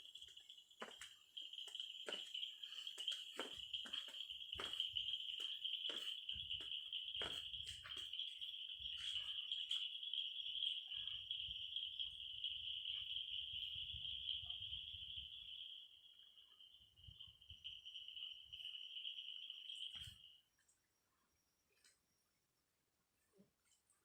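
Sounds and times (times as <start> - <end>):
insect trilling: 0.0 - 20.4.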